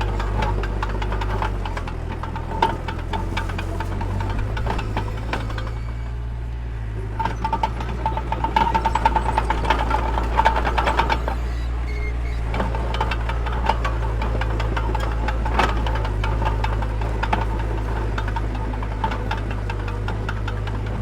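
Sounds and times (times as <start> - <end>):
rapid metallic clatter: 0.0 - 6.0, 7.2 - 21.0
diesel engine running: 0.0 - 21.0.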